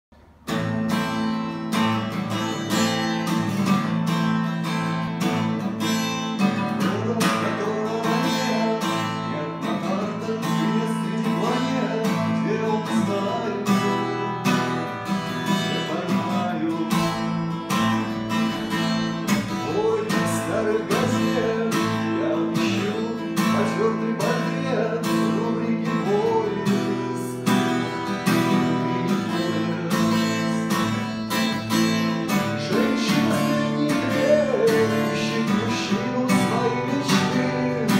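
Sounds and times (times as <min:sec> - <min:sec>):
acoustic guitar strumming chords: 0:00.2 - 0:37.9.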